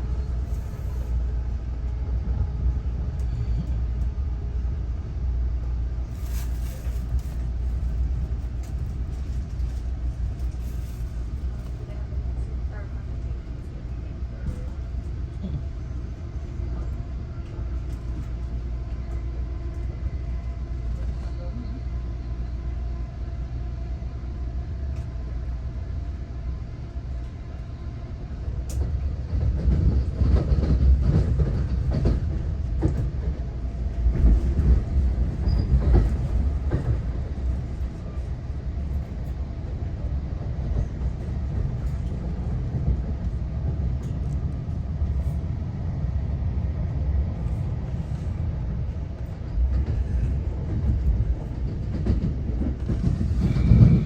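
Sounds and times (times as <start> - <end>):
train low rumble: 0.0 - 54.0
train rattling and clatter: 0.0 - 54.0.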